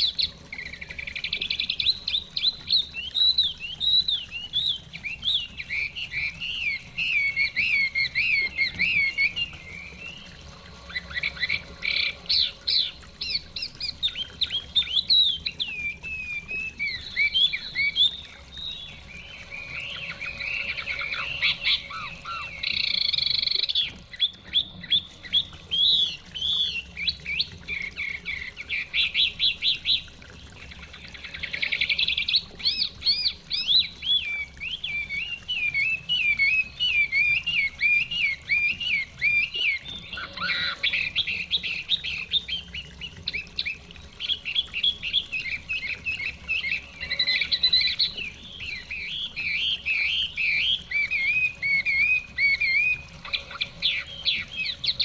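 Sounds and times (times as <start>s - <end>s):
bird singing trills and warbles: 0.0s - 55.0s.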